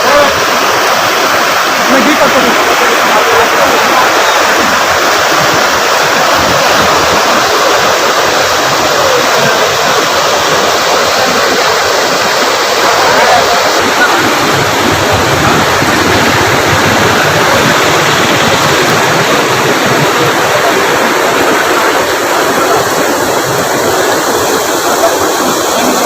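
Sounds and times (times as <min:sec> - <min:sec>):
water pouring over dam: 0:00.0 - 0:26.0.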